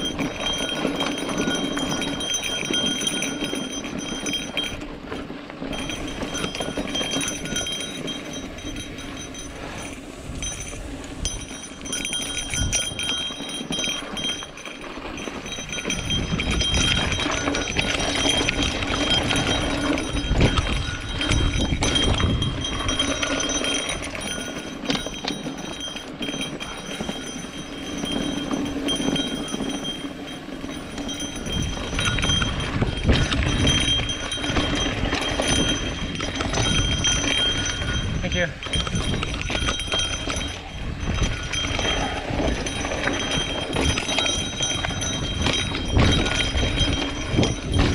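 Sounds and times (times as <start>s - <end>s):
bike knocking and rattling: 0.0s - 47.9s
bike tyres on dirt and rock: 0.0s - 47.9s.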